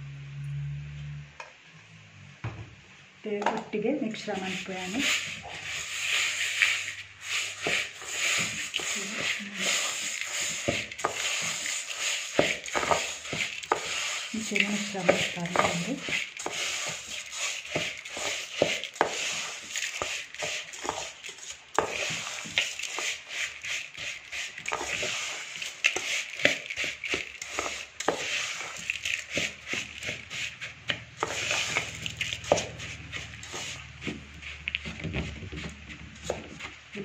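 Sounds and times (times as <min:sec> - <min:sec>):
spoon scraping dry mixture: 0:03.3 - 0:37.0.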